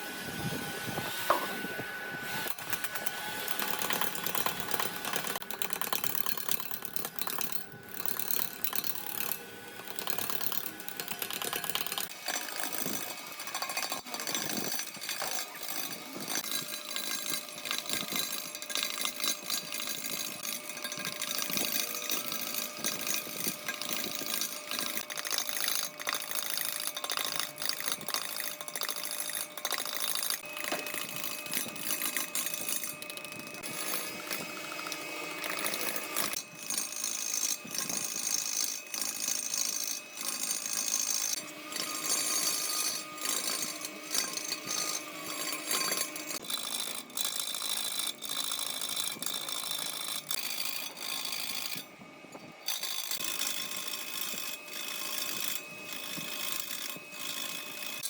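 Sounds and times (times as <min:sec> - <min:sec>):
power tool working wood: 0:00.0 - 0:58.0.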